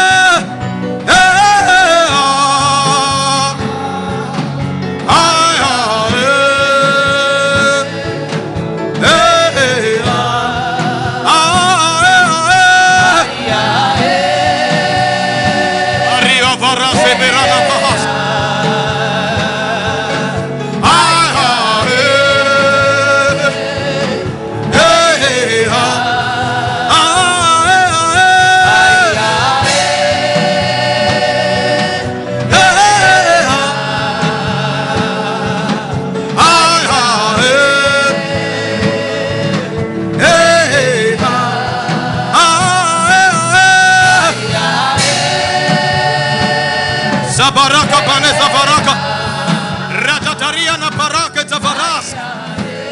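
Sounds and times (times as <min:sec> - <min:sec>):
gospel worship singing: 0:00.0 - 0:52.9
instrumental backing: 0:00.0 - 0:52.9.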